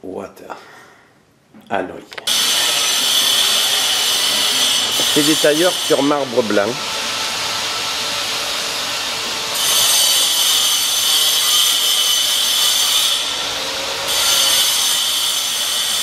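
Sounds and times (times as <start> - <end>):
power tool grinding marble: 2.3 - 16.0.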